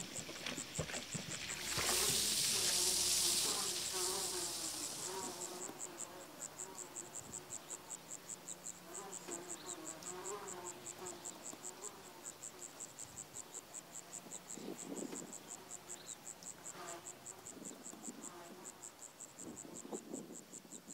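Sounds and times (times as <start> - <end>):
cricket chirping: 0.0 - 20.9.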